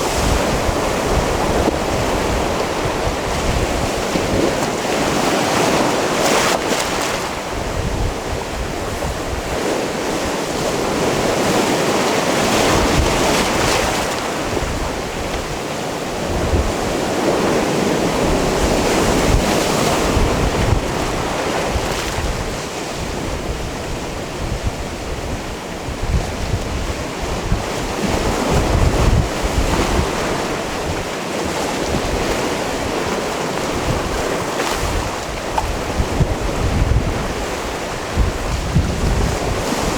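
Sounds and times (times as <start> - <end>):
sea waves on rocky shore: 0.0 - 39.9
wind buffeting microphone: 0.0 - 39.9.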